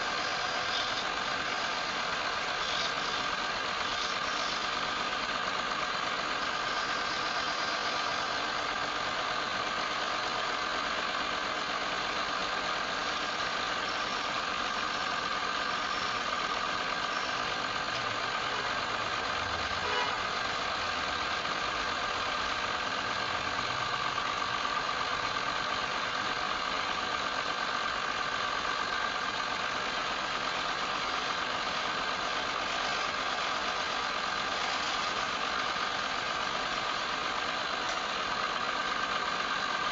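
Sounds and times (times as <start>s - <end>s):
wood lathe running: 0.0s - 39.9s.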